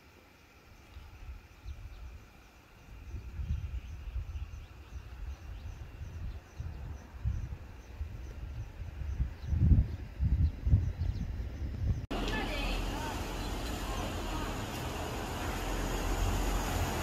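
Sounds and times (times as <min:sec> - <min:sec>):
wind buffeting microphone: 0:01.1 - 0:17.0.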